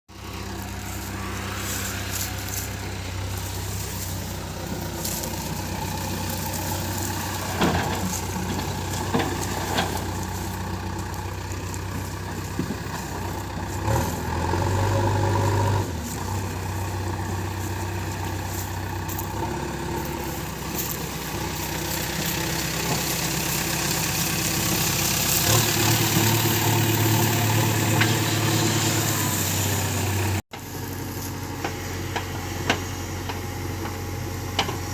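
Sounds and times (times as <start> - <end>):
backhoe diesel engine running: 0.1 - 34.9.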